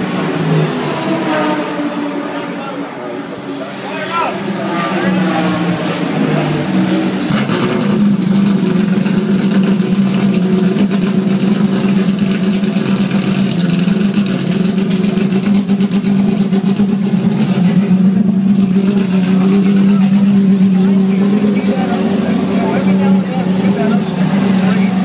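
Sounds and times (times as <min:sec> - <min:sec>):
race car engine running: 0:04.3 - 0:25.0.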